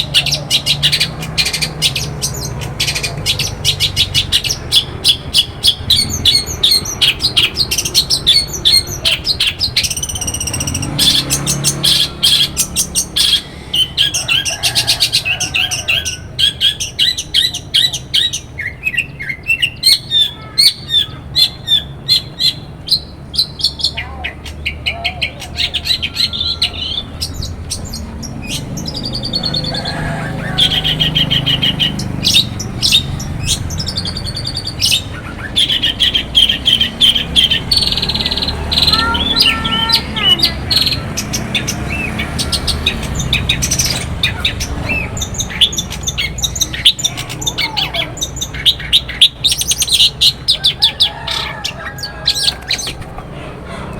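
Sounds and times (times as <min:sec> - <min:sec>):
bird singing chirps and trills: 0:00.0 - 0:53.2.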